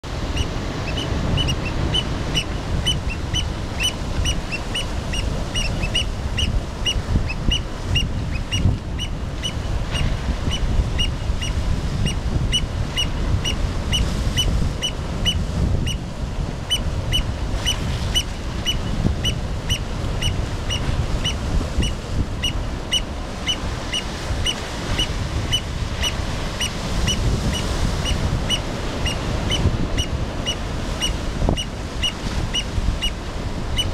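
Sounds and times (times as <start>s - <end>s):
birds piping calls: 0.2s - 16.0s, 16.6s - 33.9s.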